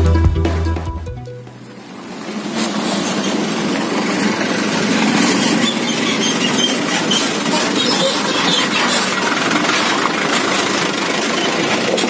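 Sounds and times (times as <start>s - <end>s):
road noise rumble: 1.4s - 12.0s
motor scooter engine passing: 1.6s - 12.0s.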